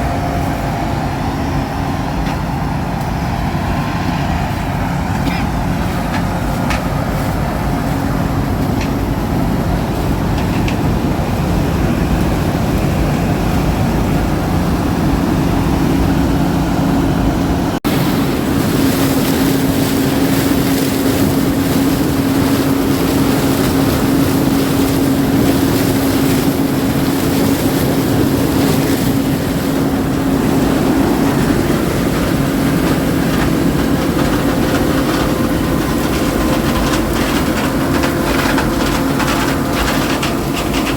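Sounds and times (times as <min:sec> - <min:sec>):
harvest machinery engine drone: 0:00.0 - 0:40.9
steady hum: 0:00.0 - 0:40.9.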